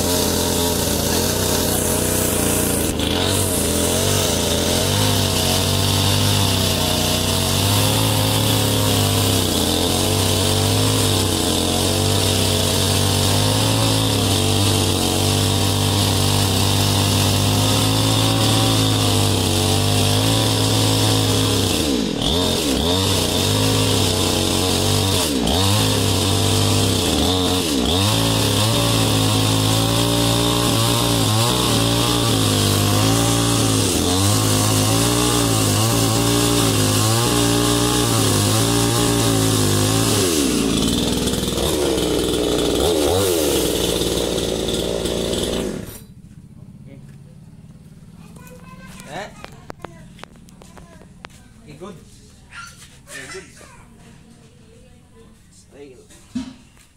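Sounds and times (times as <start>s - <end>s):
chainsaw revving: 0.0s - 46.2s.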